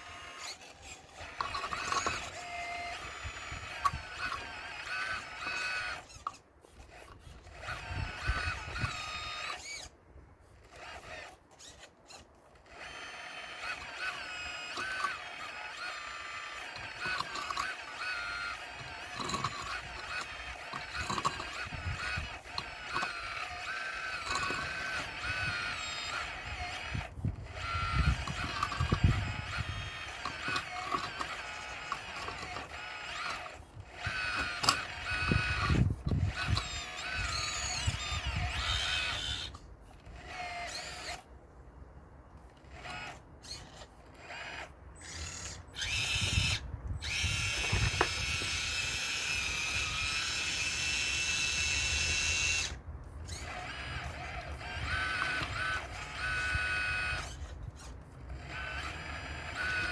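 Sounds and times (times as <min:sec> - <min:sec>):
model excavator motors whining: 0:00.0 - 0:59.9.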